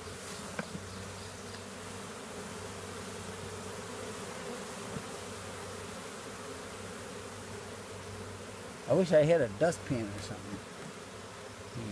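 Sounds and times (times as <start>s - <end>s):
bee swarm buzzing: 0.0s - 11.9s.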